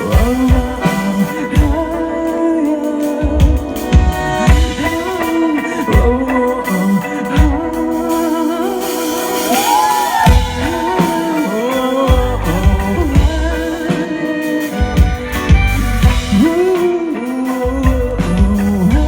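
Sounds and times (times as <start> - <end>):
live pop-rock band: 0.0 - 19.0
person singing: 0.0 - 19.0.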